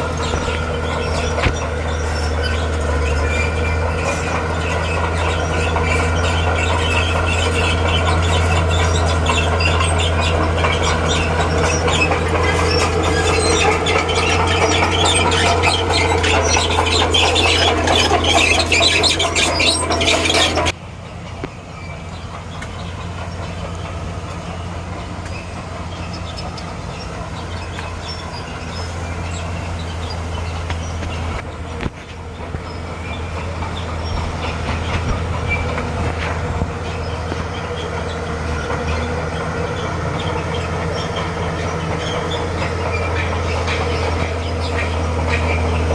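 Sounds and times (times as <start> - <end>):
bulldozer diesel engine running: 0.0 - 45.9
crawler tracks squealing and clanking: 0.0 - 45.9.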